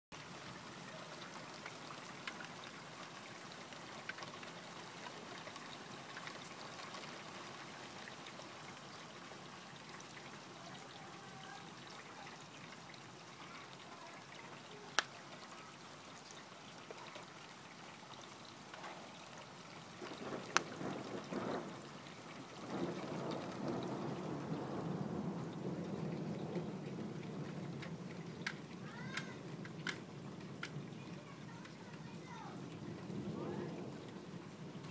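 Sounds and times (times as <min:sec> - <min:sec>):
steady rain falling: 0:00.1 - 0:34.9
raindrop ticks: 0:00.8 - 0:09.2, 0:09.8 - 0:34.9.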